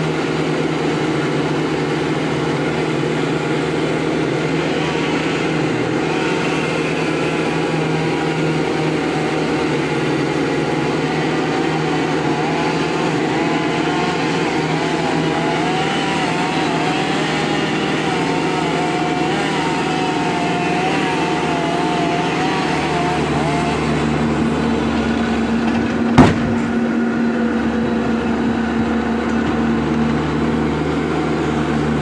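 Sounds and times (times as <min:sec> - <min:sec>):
wavering whine: 0:00.0 - 0:26.2
truck engine running: 0:00.0 - 0:32.0.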